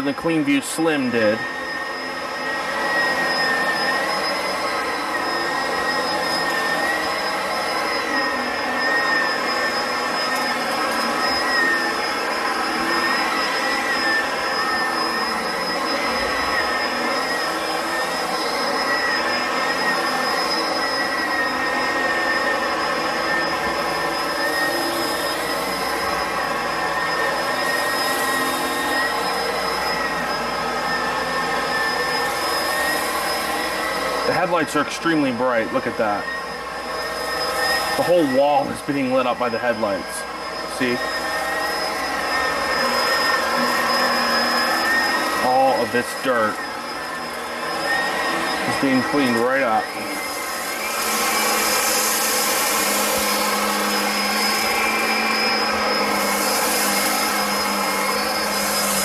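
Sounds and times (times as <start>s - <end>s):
upright vacuum cleaner whining: 0.0s - 59.0s.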